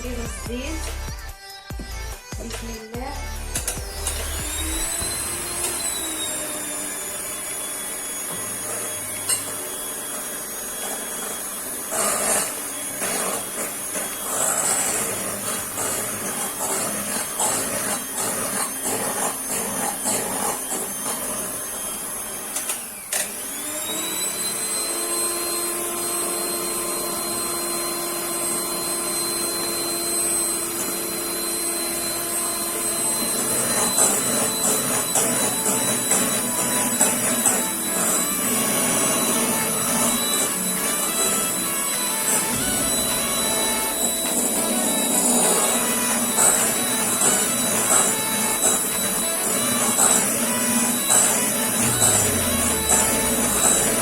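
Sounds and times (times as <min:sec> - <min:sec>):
electric mixer whining: 0:00.0 - 0:54.0
mixer rattling: 0:03.2 - 0:24.3, 0:30.0 - 0:54.0.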